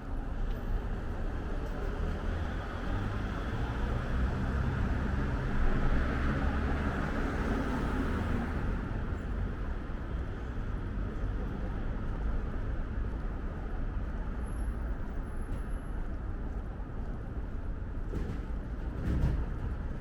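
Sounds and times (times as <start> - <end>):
rumble of passing cars: 0.0 - 20.0
urban background noise: 0.0 - 20.0.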